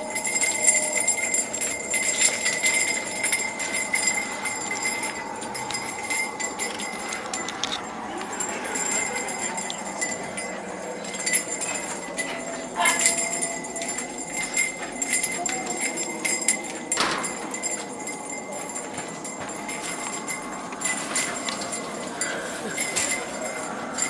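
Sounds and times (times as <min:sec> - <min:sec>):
small metal bells jingling: 0:00.0 - 0:24.0.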